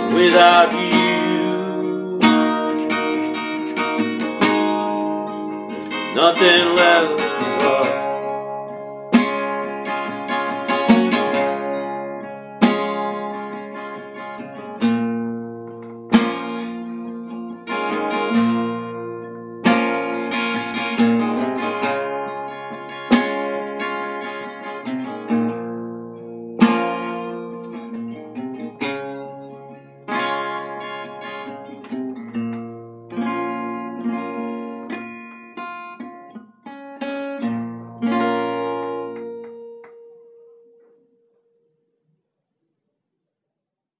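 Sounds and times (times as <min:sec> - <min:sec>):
acoustic guitar strumming chords: 0:00.0 - 0:41.7.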